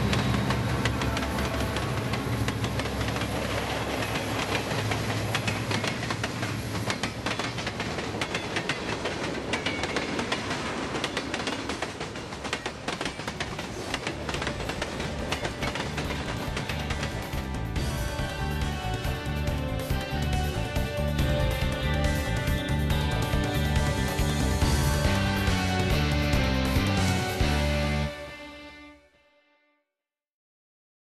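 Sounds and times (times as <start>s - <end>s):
train wheels clicking over rail joints: 0.0s - 27.5s
train rumble: 0.0s - 28.7s.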